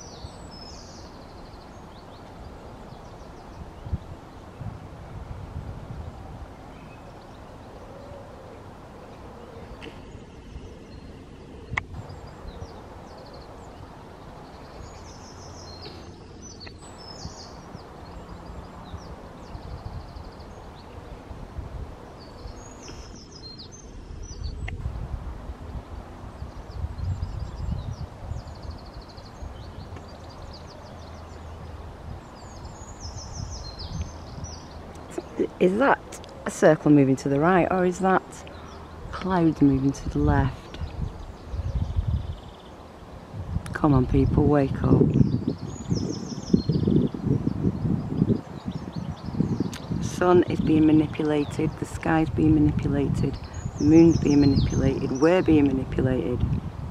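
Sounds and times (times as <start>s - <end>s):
small birds twittering: 0.0s - 5.2s, 5.9s - 24.9s, 26.2s - 56.9s.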